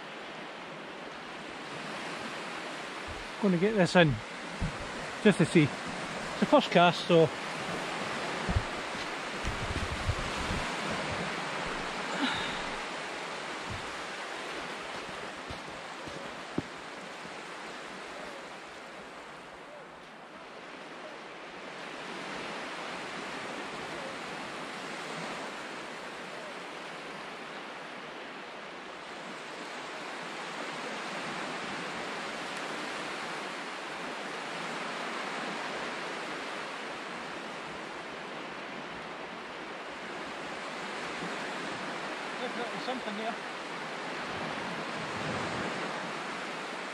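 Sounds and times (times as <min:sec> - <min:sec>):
small waves breaking on shore: 0:00.0 - 0:46.9.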